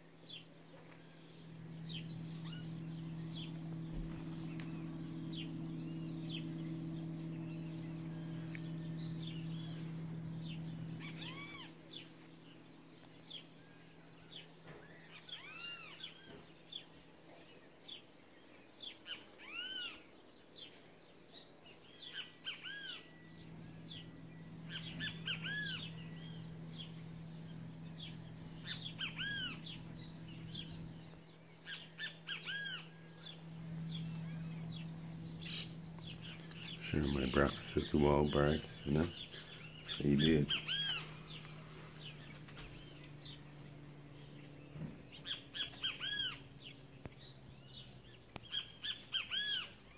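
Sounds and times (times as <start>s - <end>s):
steady low hum: 0.0s - 49.9s
wild birds chirping: 0.0s - 49.9s.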